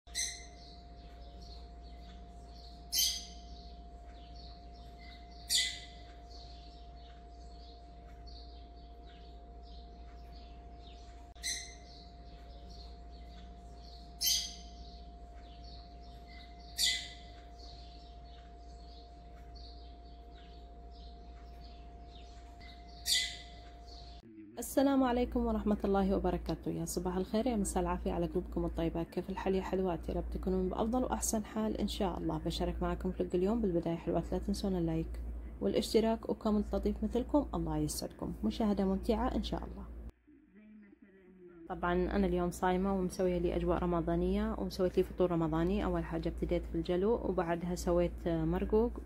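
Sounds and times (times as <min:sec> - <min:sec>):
birds chirping: 0:00.1 - 0:49.0
steady low hum: 0:00.1 - 0:49.0.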